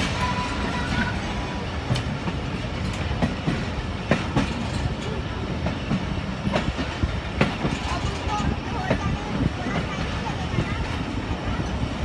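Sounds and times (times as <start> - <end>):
train rumble: 0.0 - 12.0
train wheels clacking over joints: 0.0 - 12.0.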